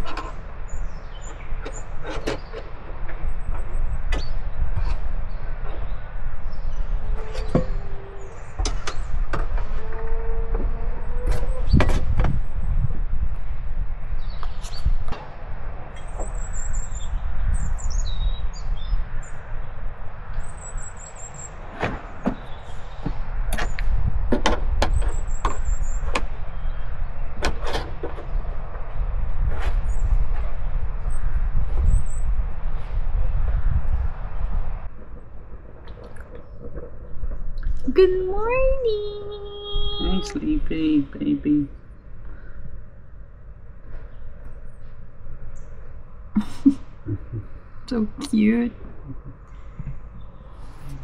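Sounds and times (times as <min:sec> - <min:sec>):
wind rumbling on microphone: 0:00.0 - 0:51.0.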